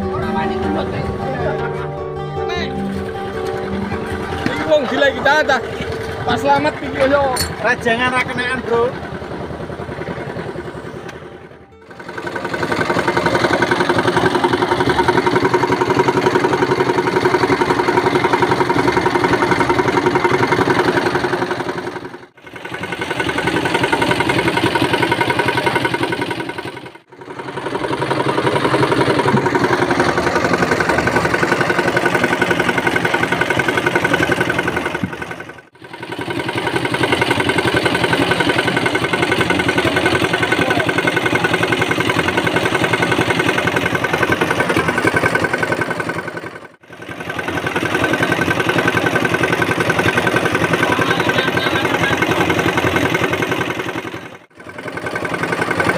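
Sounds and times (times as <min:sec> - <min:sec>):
diesel engine chugging: 0:00.0 - 0:55.9.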